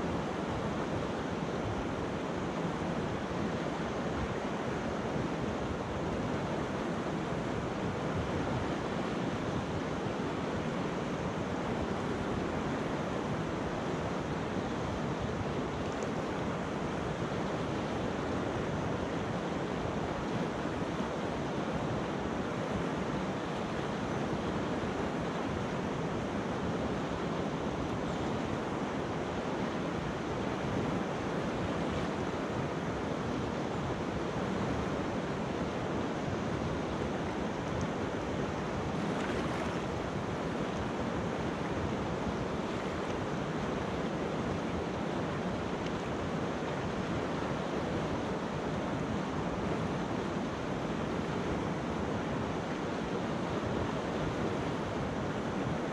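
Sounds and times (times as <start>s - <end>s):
river water rushing over pebbles: 0.0s - 55.9s.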